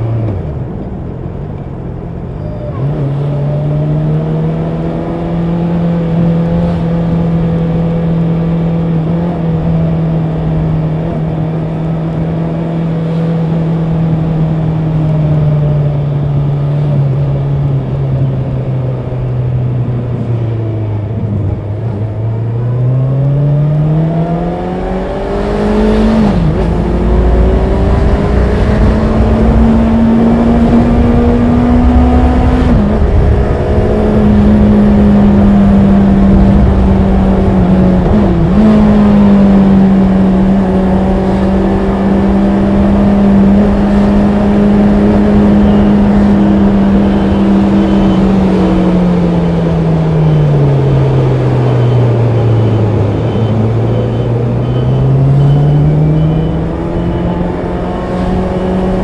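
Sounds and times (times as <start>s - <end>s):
motorcycle engine revving: 2.4s - 59.0s.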